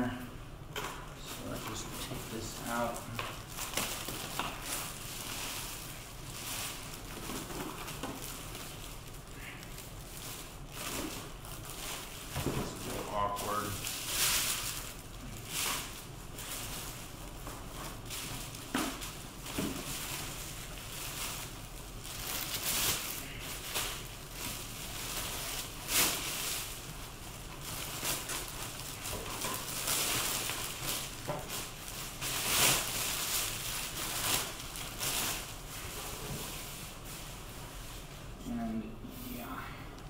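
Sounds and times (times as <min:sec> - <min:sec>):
plastic wrap rustling and crinkling: 0:00.7 - 0:40.0.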